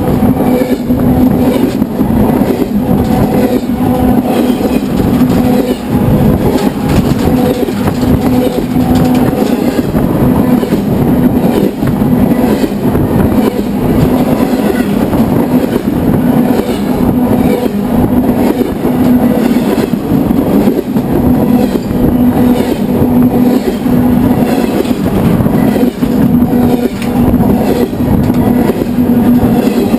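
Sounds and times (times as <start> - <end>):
pulsing hum: 0.0 - 29.9
steel wheels rumbling on rail: 0.0 - 29.9.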